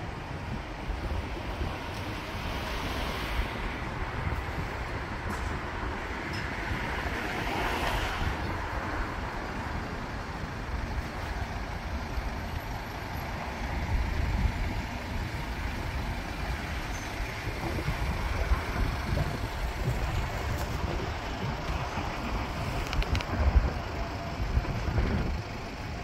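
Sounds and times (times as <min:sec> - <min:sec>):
road traffic noise: 0:00.0 - 0:26.0
wind rumbling on microphone: 0:00.0 - 0:26.0.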